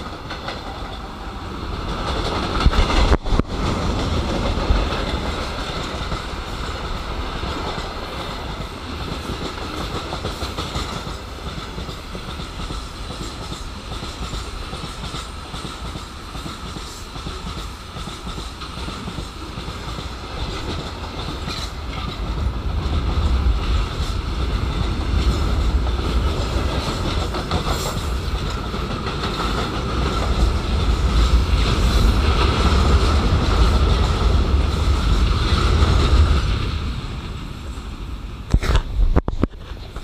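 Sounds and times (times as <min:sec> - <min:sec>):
wheels clattering over rail joints: 0:00.0 - 0:37.4
freight train rumble: 0:00.0 - 0:40.0.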